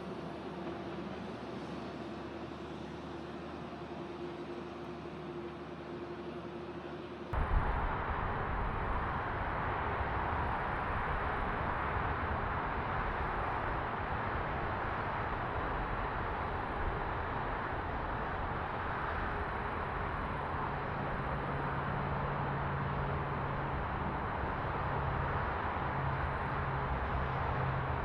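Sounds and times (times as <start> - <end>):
low engine-like hum: 0.0 - 28.0
passing traffic: 0.0 - 28.0.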